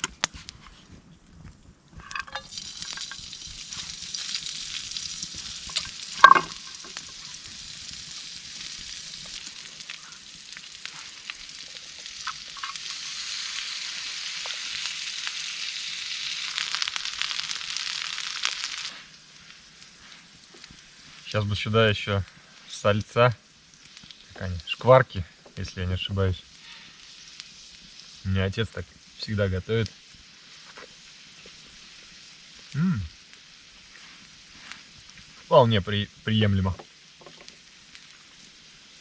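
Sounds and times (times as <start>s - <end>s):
potatoes sizzling in a pan: 2.0s - 39.0s.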